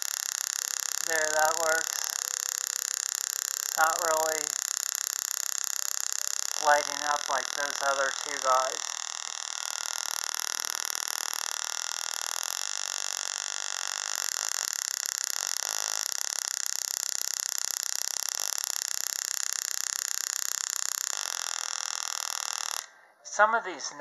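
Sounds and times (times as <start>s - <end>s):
tesla coil spark buzzing: 0.0s - 24.0s.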